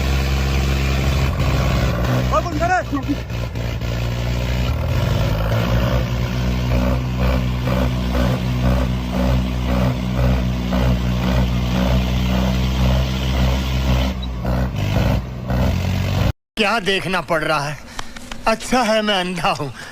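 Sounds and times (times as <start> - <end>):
tractor diesel engines under load: 0.0 - 19.9.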